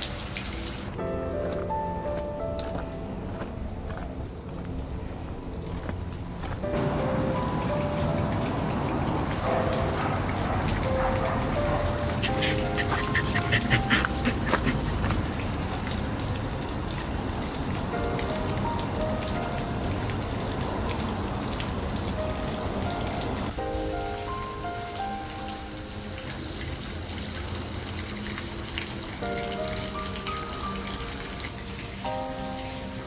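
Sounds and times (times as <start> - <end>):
falling water hiss: 0.0 - 0.9, 6.8 - 33.0
gentle background music: 0.0 - 33.0.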